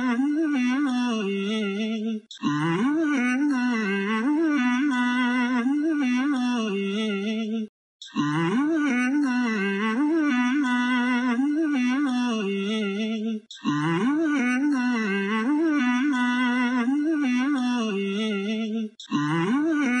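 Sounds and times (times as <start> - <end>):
wordless humming voice: 0.0 - 20.0.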